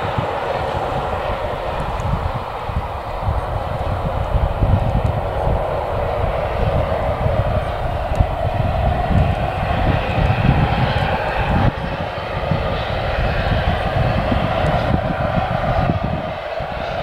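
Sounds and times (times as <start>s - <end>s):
turboprop engine drone: 0.0s - 17.0s
wind rumble on microphone: 0.0s - 17.0s.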